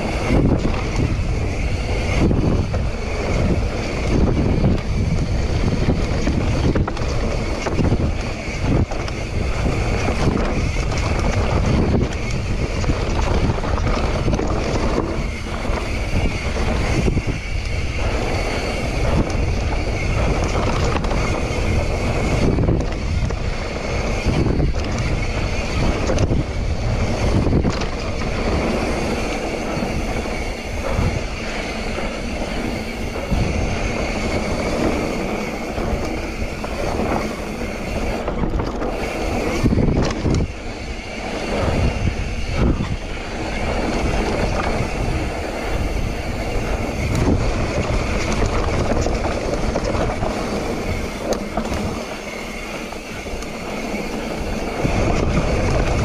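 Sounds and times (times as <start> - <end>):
bike rattling over bumps: 0.0 - 56.0
tyres rolling on dirt: 0.0 - 56.0
wind rushing over microphone: 0.0 - 56.0.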